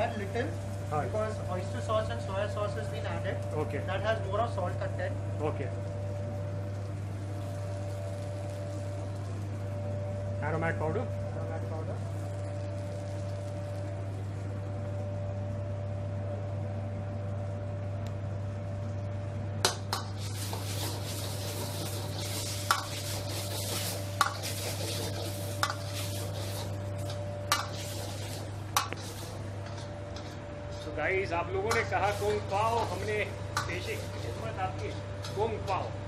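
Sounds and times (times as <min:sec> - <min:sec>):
food sizzling: 0:00.0 - 0:14.8, 0:19.6 - 0:36.0
steady low hum: 0:00.0 - 0:36.0.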